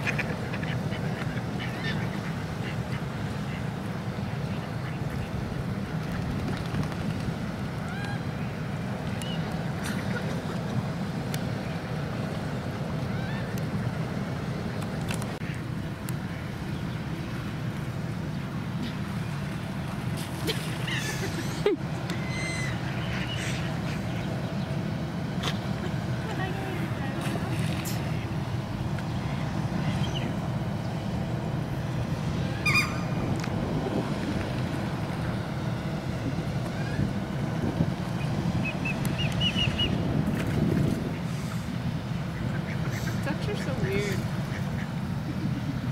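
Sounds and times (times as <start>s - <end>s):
low outdoor rumble: 0.0s - 45.9s.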